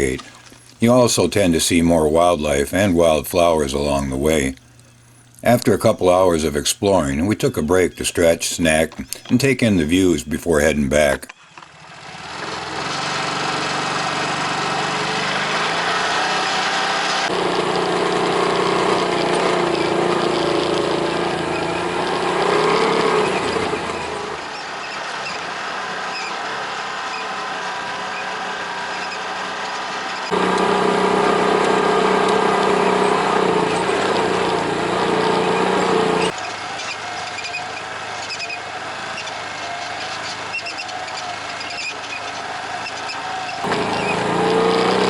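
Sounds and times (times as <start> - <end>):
off-road vehicle engine revving: 0.0 - 45.0.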